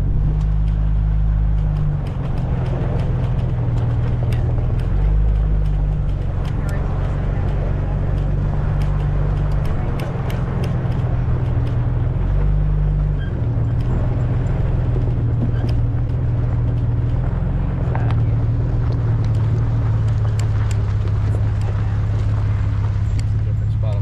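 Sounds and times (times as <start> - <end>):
car engine running: 0.0 - 24.0
clicks and rattles: 0.1 - 23.5.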